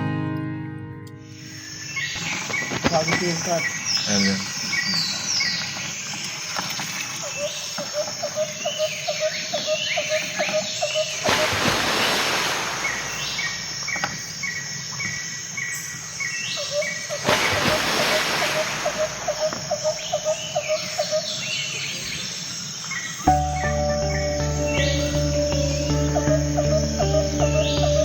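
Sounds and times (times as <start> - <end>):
birds chirping: 1.2 - 28.0
insects trilling: 1.2 - 28.0.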